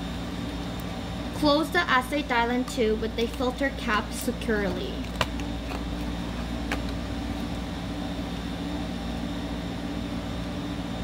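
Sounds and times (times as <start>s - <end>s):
mechanical hum with hiss: 0.0s - 11.0s.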